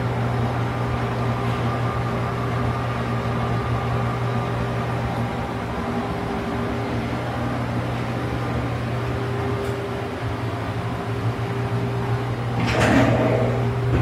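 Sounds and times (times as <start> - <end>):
mechanical hum of motor: 0.0 - 14.0.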